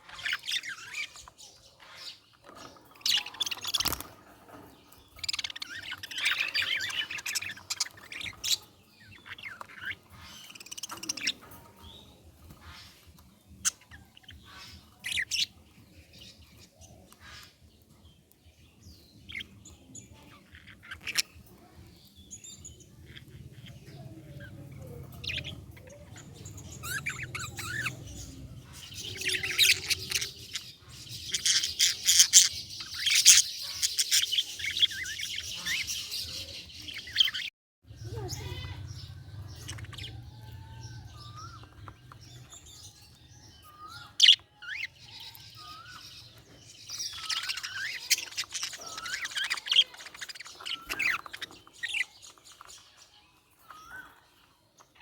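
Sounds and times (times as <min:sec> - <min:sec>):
budgerigars chirping and warbling: 0:00.0 - 0:55.0.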